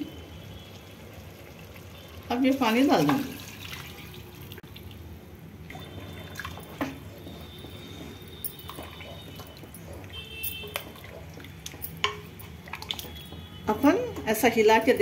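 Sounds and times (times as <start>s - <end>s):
water pouring into pot: 0.5s - 13.4s.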